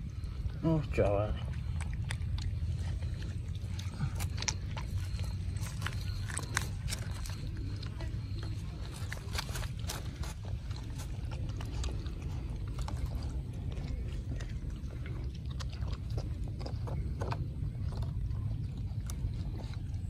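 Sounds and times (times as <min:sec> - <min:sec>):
puppy eating wet food: 0:00.0 - 0:20.0
steady low rumble: 0:00.0 - 0:20.0.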